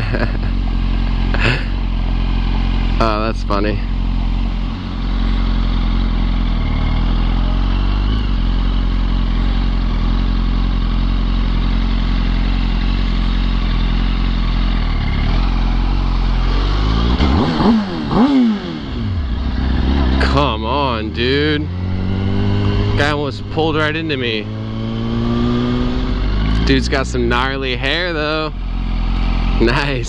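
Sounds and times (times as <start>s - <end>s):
motorcycle engine cruising: 0.0s - 30.0s
road and wind noise: 0.0s - 30.0s.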